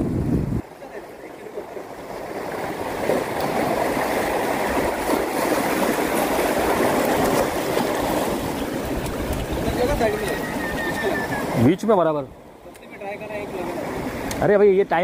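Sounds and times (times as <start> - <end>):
seawater washing over rocks: 0.1 - 15.0.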